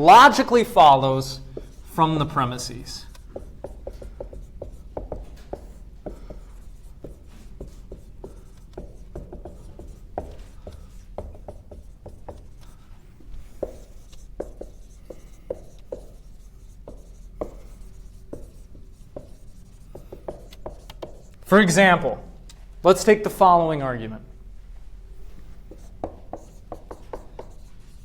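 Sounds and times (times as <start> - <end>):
marker writing on a whiteboard: 0.0 - 22.3, 25.2 - 28.0.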